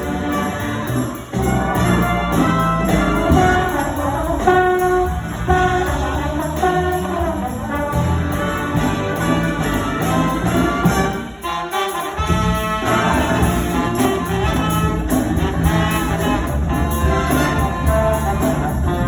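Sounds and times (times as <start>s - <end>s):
bass line: 0.0s - 11.4s, 12.2s - 19.0s
jazz big band playing: 0.0s - 19.0s
trumpets and trombones: 0.0s - 19.0s.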